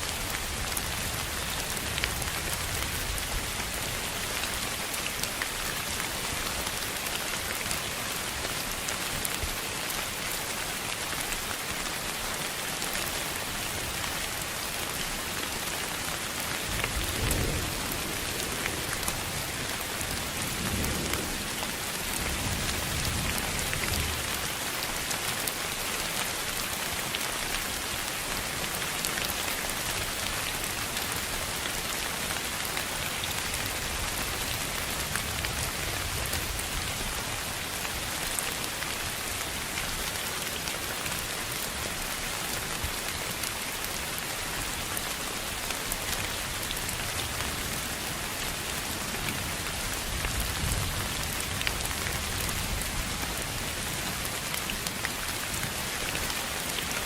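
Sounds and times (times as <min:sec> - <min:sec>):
rain-like hiss with pattering: 0:00.0 - 0:57.0.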